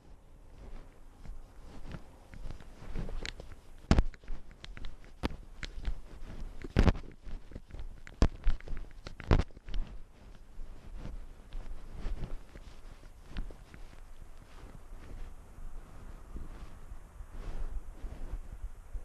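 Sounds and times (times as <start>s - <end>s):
cat paws on wooden boards: 0.0s - 16.8s.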